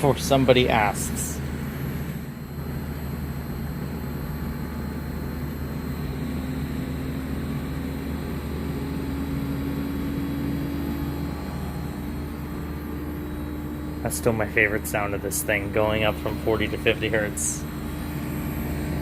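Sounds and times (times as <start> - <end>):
air conditioner hum rising in pitch: 0.0 - 19.0.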